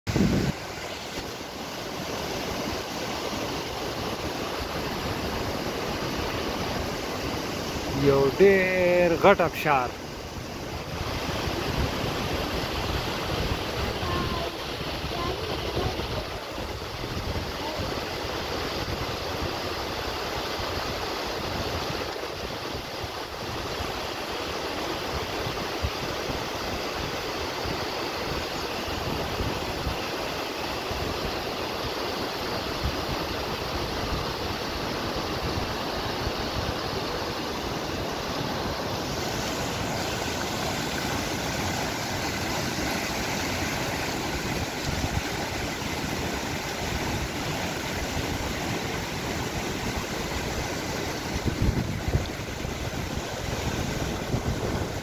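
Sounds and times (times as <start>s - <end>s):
waterfall rushing: 0.1s - 55.0s.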